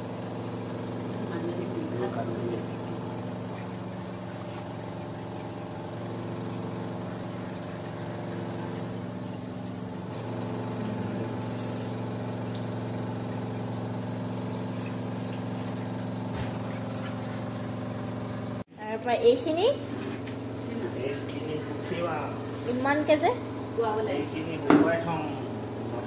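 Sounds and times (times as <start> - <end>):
motor humming: 0.0 - 26.0.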